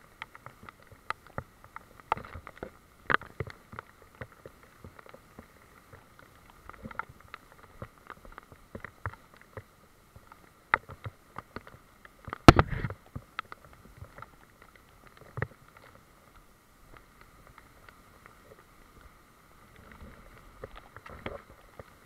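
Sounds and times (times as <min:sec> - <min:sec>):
rain hissing in trees: 0:00.0 - 0:22.0
raindrops tapping on camera: 0:00.0 - 0:22.0.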